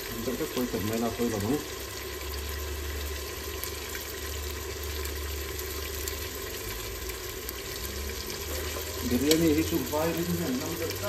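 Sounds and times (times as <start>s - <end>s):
meat and onions sizzling: 0.0s - 11.0s.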